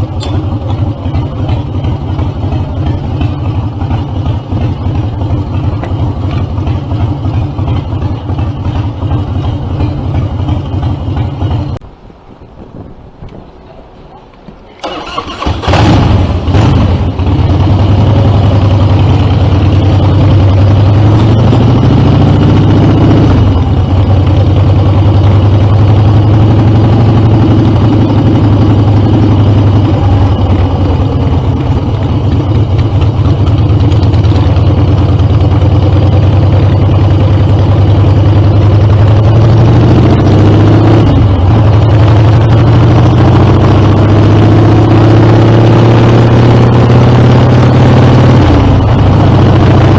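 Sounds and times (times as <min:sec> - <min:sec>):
motorcycle engine idling loudly: 0:00.0 - 0:11.8, 0:15.4 - 0:49.9.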